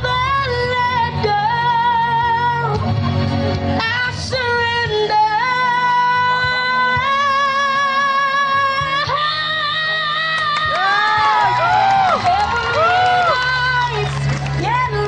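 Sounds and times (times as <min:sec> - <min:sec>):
backing music: 0:00.0 - 0:15.0.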